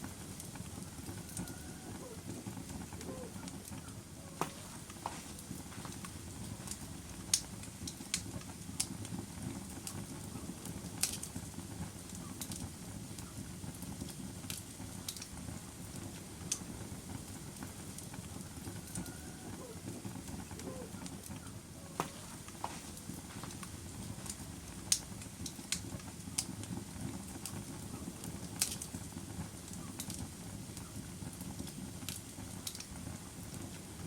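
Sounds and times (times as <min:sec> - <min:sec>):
fire rumbling: 0:00.0 - 0:34.0
logs crackling and popping: 0:00.0 - 0:34.0.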